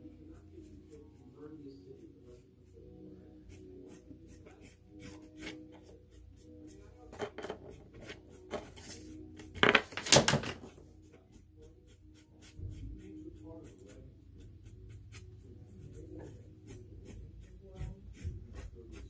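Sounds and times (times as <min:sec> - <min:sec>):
paintbrush tapping and scrubbing: 0:03.5 - 0:19.0.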